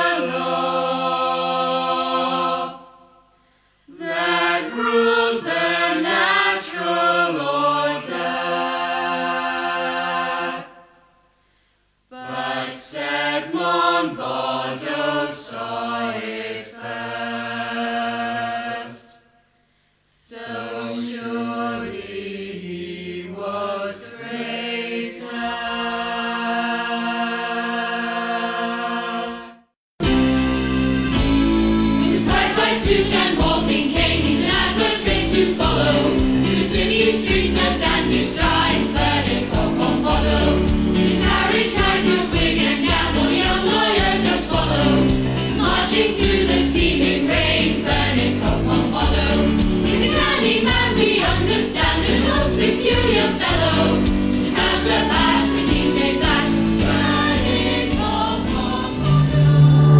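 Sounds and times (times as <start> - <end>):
choir singing in harmony: 0.0 - 3.3, 3.9 - 11.1, 12.1 - 19.3, 20.1 - 59.9.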